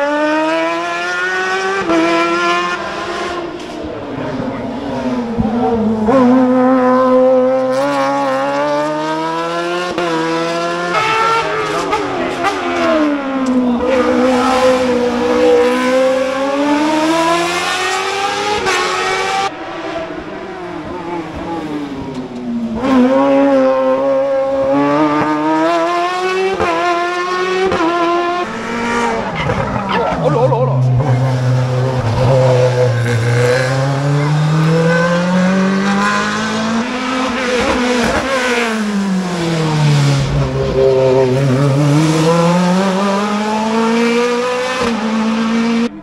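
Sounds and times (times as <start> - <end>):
rally car engine revving: 0.0 - 46.0.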